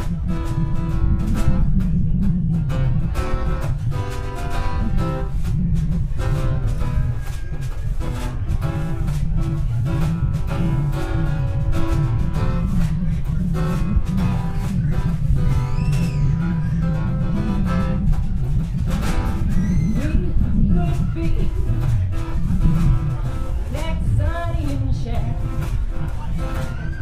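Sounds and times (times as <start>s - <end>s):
acoustic guitar picking and strumming: 0.0s - 27.0s
upright bass line: 0.0s - 27.0s.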